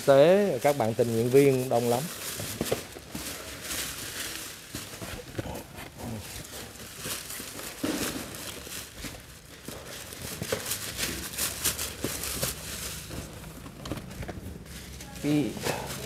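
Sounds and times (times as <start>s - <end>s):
plastic bags rustling: 0.0s - 16.0s
cardboard boxes handled: 0.1s - 16.0s.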